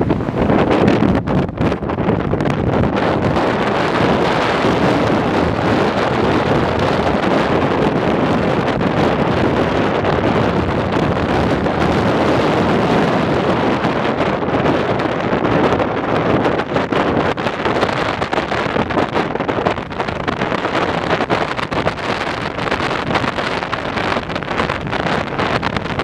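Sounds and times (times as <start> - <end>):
gusty wind buffeting microphone: 0.0 - 26.0.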